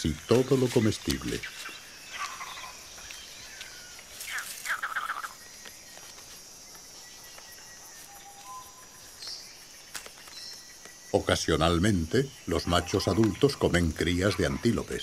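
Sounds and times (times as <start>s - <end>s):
bird calls: 0.0s - 15.0s
falling bird chirps: 0.0s - 15.0s
high insect trilling: 0.0s - 15.0s.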